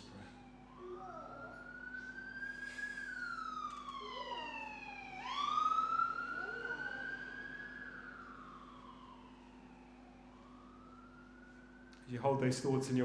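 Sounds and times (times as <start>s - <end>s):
siren wailing: 0.0s - 13.0s.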